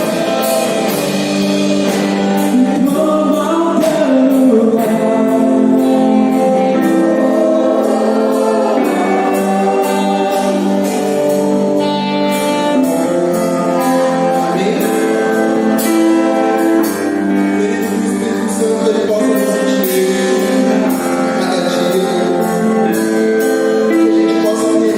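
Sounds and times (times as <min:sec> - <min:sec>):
voices singing worship music: 0:00.0 - 0:24.9.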